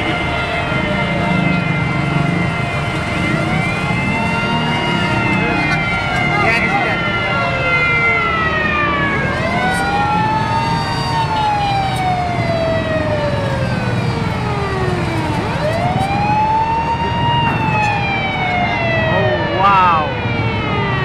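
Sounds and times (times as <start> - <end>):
fire truck sirens wailing: 0.0 - 21.0.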